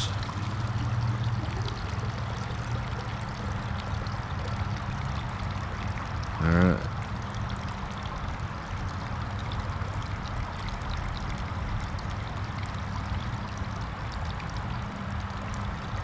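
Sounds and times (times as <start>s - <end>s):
water pouring and trickling: 0.0s - 16.0s.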